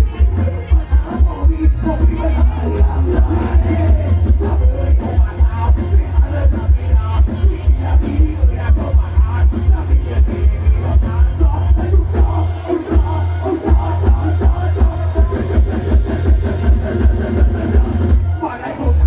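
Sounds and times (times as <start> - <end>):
loud dance music with bass beat: 0.0 - 19.0.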